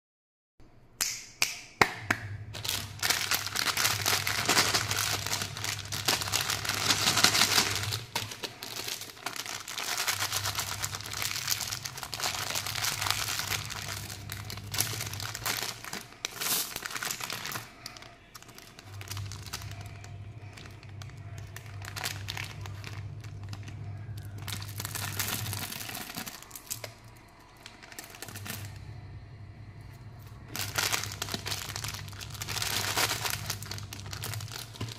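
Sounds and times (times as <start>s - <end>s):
candy wrappers crinkling and tearing: 2.3s - 29.2s, 30.2s - 34.9s.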